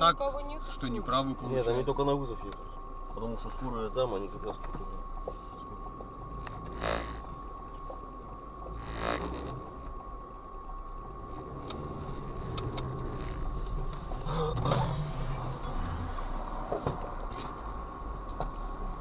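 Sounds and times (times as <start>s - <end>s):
faint high whine: 0.0s - 19.0s
car cabin rumble: 1.1s - 19.0s.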